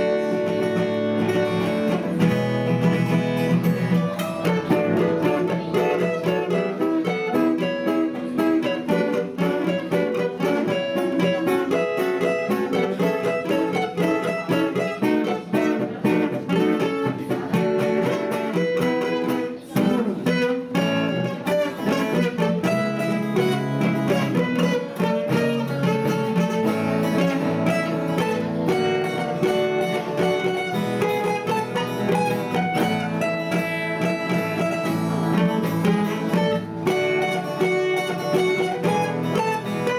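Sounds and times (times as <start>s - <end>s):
acoustic guitar duet: 0.0s - 39.9s.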